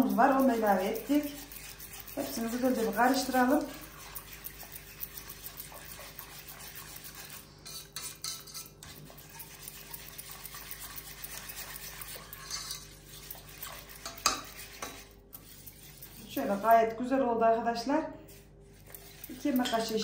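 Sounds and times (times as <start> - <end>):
liquid sloshing in a pot: 0.0 - 16.9, 18.3 - 20.0
whisk wires scraping metal pot: 0.0 - 17.0, 18.3 - 20.0.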